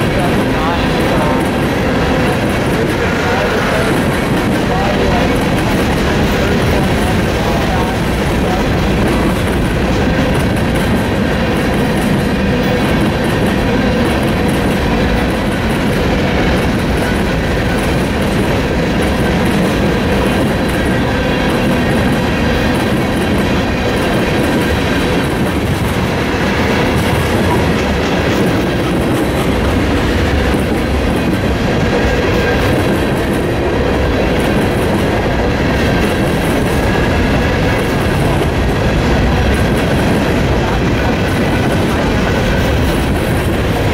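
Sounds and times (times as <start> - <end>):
freight train wheels clacking: 0.0 - 43.9.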